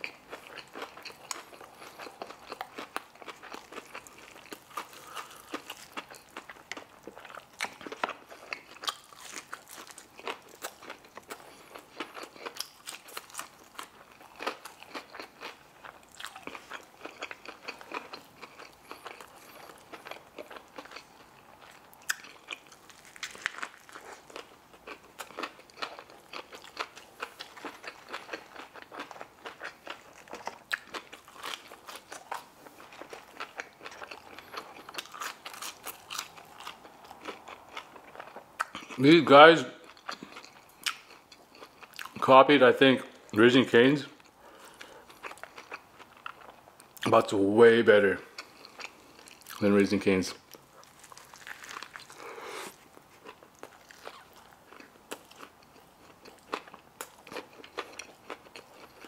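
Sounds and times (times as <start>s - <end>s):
wet chewing mouth sounds: 0.0s - 39.0s, 39.8s - 42.2s, 48.3s - 49.6s, 50.4s - 59.0s
crunching fried chicken: 0.0s - 42.3s, 43.4s - 47.3s, 47.9s - 59.0s.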